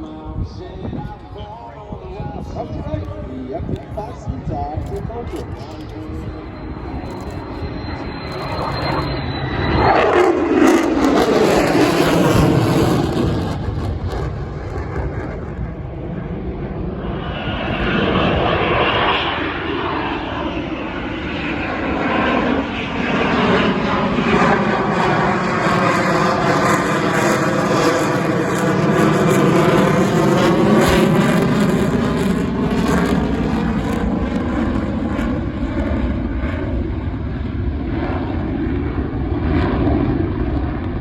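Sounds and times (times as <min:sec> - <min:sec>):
jet high whine: 0:00.0 - 0:41.0
jet roaring past: 0:00.0 - 0:41.0.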